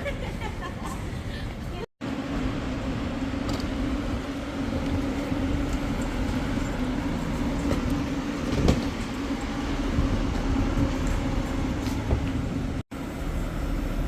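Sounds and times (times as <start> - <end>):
train interior hum and rumble: 0.0 - 14.0.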